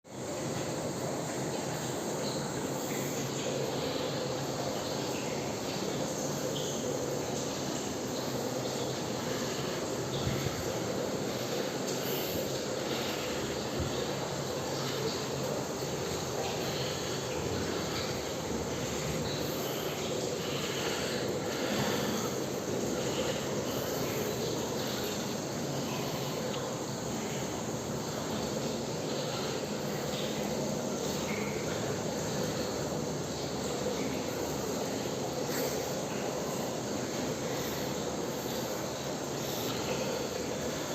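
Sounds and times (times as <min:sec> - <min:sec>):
low constant hum: 0:00.1 - 0:40.9
machinery hiss: 0:00.2 - 0:40.9.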